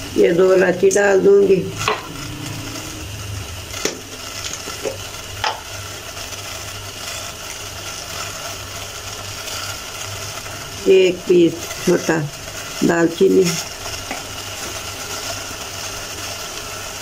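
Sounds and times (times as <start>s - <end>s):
water simmering in a pot: 0.0s - 17.0s.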